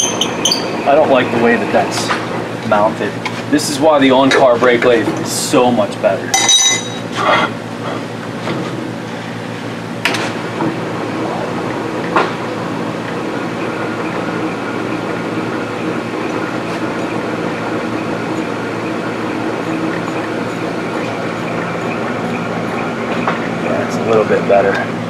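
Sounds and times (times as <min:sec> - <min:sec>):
brake lathe humming: 0:00.0 - 0:25.0.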